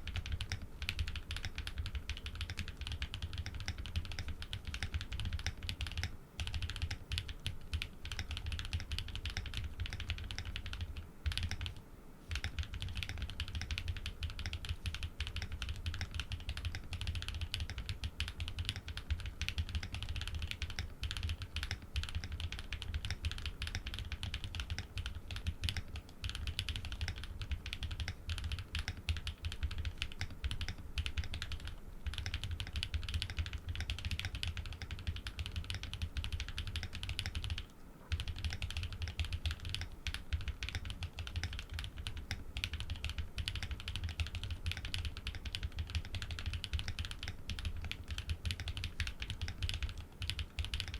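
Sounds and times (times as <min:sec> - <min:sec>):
typing on mechanical keyboard: 0:00.0 - 0:50.9.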